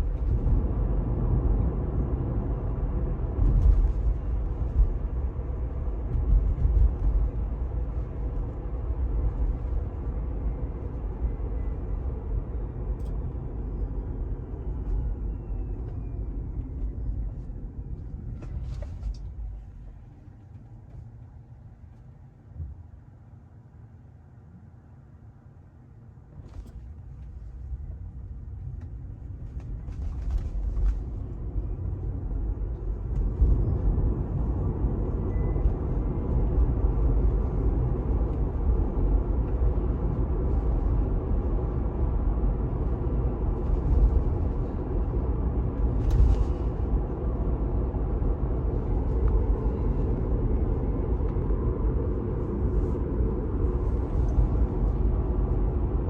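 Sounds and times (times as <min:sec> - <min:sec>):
road and tyre noise in car: 0:00.0 - 0:56.0.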